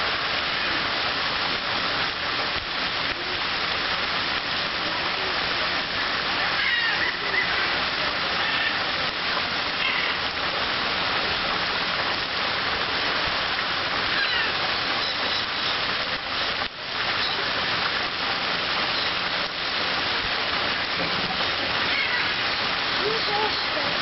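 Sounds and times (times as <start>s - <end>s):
fountain jets splashing into water: 0.0s - 24.0s.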